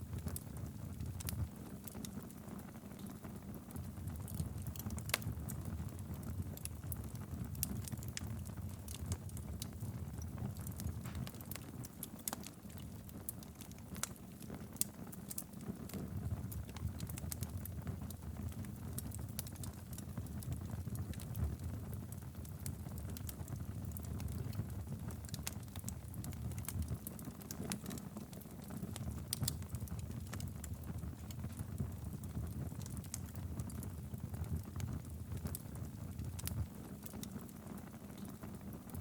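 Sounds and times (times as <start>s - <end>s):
fire crackles and pops: 0.0s - 39.0s
fire flames rumbling: 3.7s - 39.0s.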